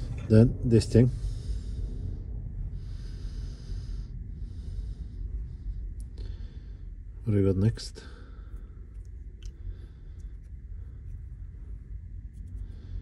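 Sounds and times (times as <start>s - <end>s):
steady low rumble: 0.0s - 13.0s
person breathing close to microphone: 1.1s - 7.2s, 8.0s - 13.0s.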